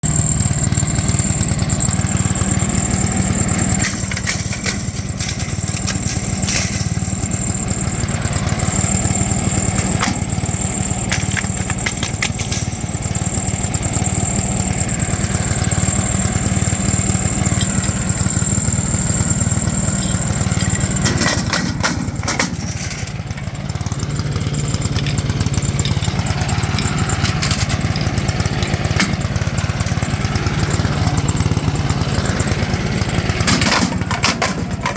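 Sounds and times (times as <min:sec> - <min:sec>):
wood chipper engine running: 0:00.0 - 0:34.9.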